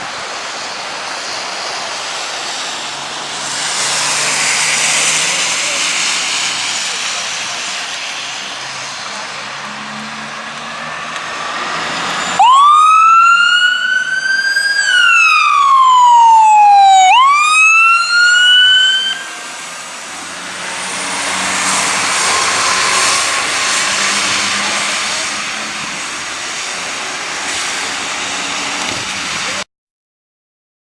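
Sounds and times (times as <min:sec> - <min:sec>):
fire engine siren wailing: 0:00.0 - 0:29.6
loud even rushing noise: 0:00.0 - 0:29.6.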